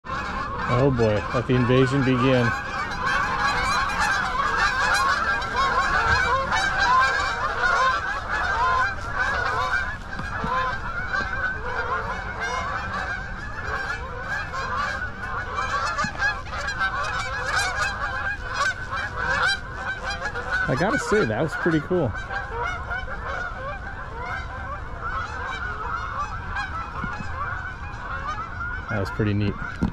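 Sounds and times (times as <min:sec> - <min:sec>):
geese honking: 0:00.0 - 0:29.9.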